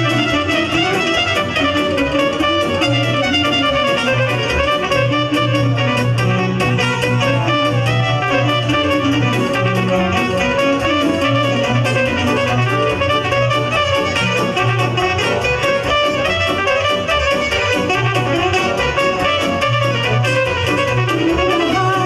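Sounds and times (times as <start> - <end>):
digital accordion: 0.0 - 22.0
fast beat: 0.0 - 22.0
pulsing bass: 0.0 - 22.0
saxophone: 0.0 - 22.0.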